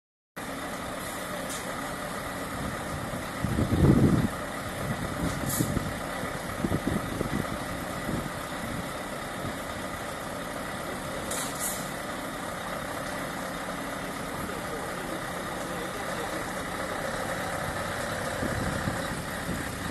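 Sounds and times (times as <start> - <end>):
diesel truck engine idling: 0.4 - 19.9.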